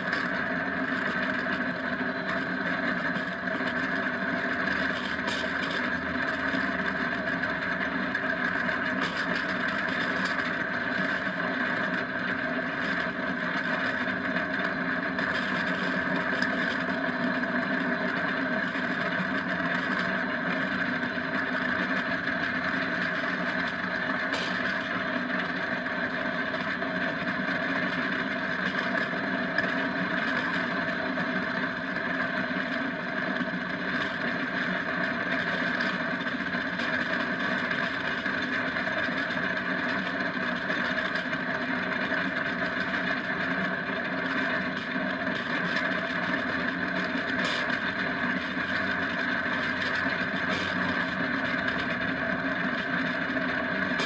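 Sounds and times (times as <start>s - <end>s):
tyres on asphalt: 0.0s - 54.0s.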